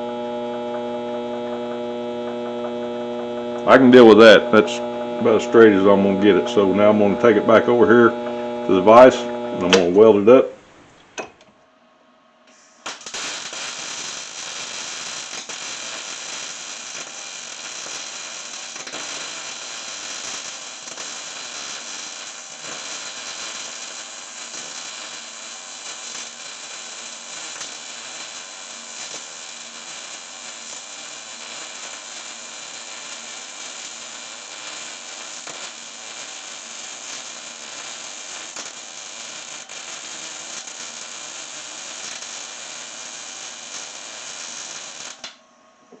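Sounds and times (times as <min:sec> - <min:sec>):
welding arc crackling: 0:02.0 - 0:09.9, 0:12.5 - 0:45.4.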